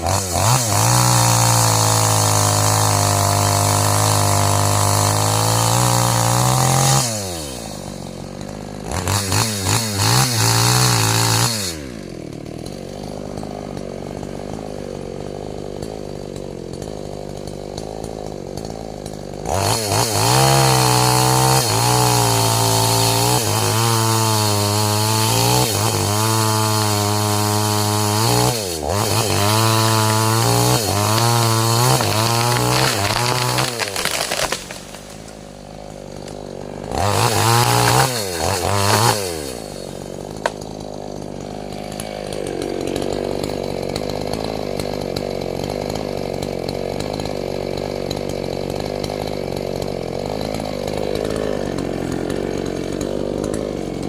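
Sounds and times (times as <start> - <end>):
chainsaw cutting wood: 0.0 - 54.0
chainsaw revving: 0.0 - 54.0.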